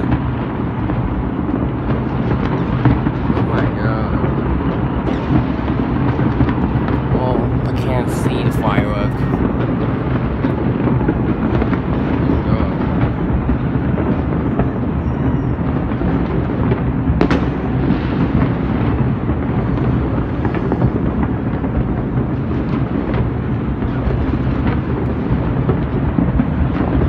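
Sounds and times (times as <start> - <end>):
distant fireworks bangs and crackles: 0.0 - 27.0.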